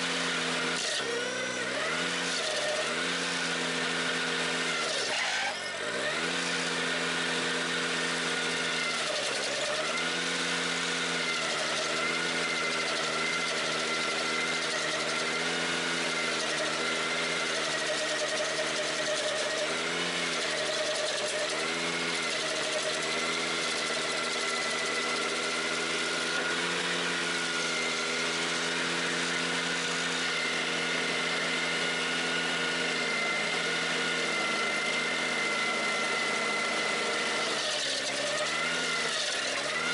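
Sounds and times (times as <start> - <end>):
stump grinder cutter whine: 0.0 - 39.9
tractor engine running: 0.0 - 39.9.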